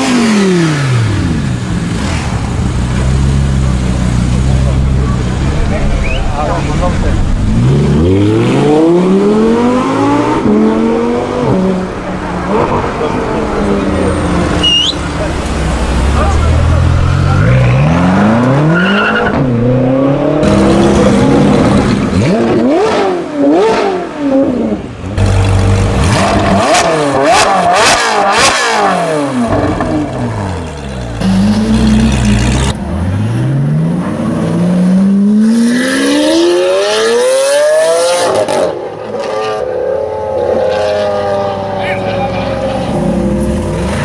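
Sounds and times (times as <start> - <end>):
car engine revving and accelerating: 0.0 - 44.0.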